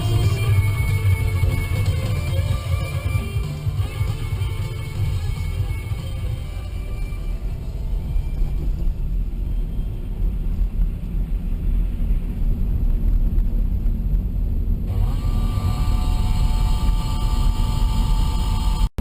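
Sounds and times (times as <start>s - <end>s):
steady tones: 0.0s - 13.1s, 13.7s - 19.0s
car engine and road noise: 0.0s - 19.0s.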